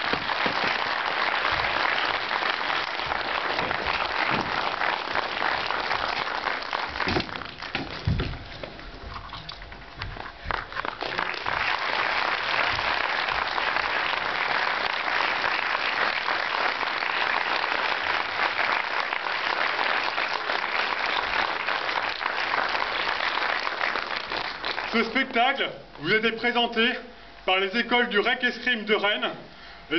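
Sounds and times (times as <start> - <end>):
audience applauding: 0.0 - 9.0, 9.6 - 25.4.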